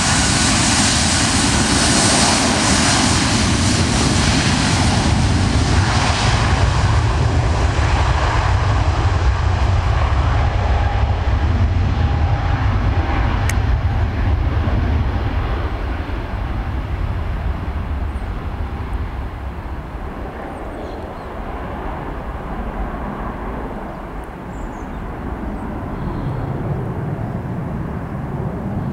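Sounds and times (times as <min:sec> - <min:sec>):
jet airliner taking off: 0:00.0 - 0:28.9.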